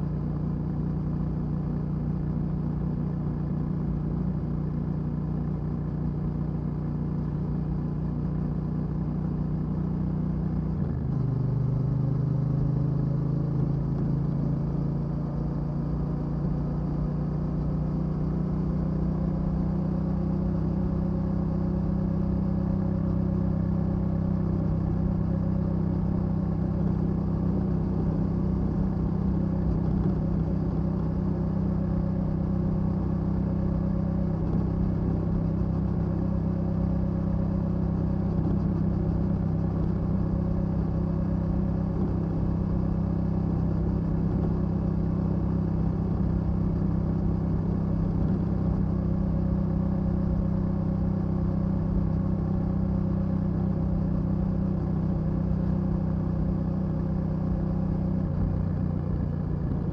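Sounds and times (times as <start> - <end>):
motorcycle engine at road speed: 0.0 - 59.9.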